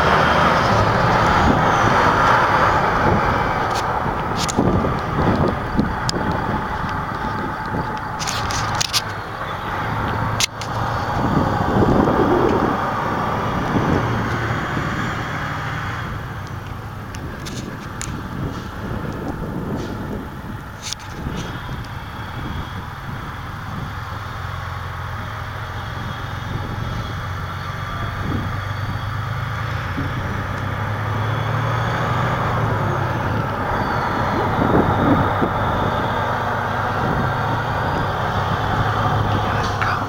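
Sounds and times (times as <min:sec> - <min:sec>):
truck diesel engine passing: 0:00.0 - 0:40.0.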